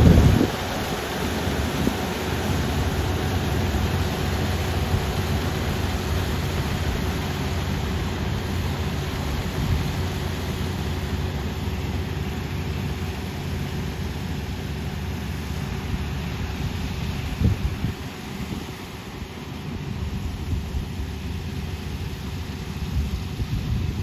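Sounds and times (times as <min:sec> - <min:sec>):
combine harvester diesel engine running: 0:00.0 - 0:24.0.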